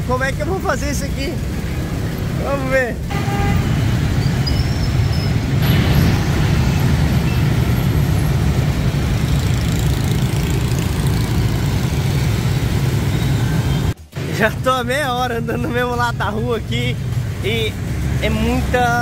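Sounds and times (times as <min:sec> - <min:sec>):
motorbike and scooter traffic: 0:00.0 - 0:19.0.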